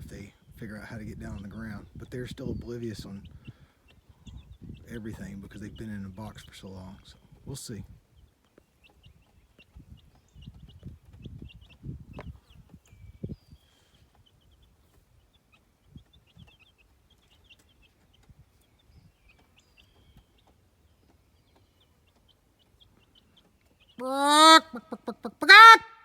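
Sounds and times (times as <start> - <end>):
chicks peeping: 0.7 - 25.6.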